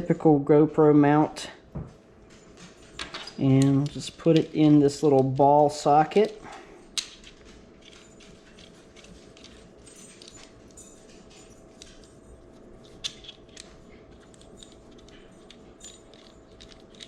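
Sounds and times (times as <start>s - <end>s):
faint steady hum: 0.0s - 17.0s
plastic parts clicking and rustling: 2.6s - 17.0s.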